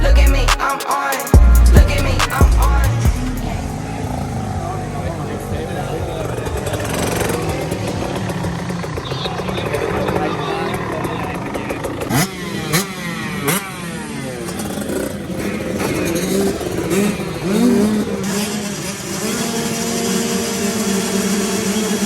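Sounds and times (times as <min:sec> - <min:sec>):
motocross engines revving: 0:00.0 - 0:22.0.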